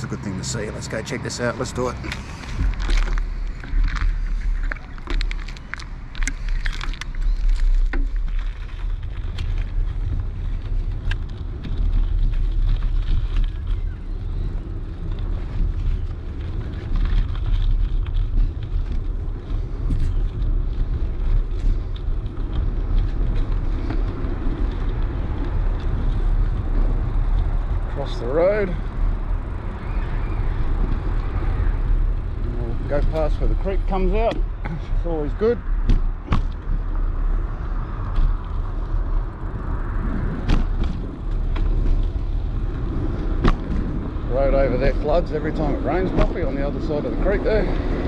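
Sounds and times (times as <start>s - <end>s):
bicycle tyre noise: 0.0s - 48.0s
bike clicks and rattles: 0.5s - 48.0s
wind on microphone: 1.4s - 48.0s.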